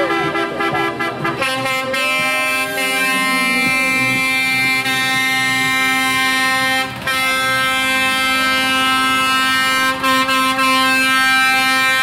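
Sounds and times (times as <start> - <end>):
truck horn blasts: 0.0 - 12.0.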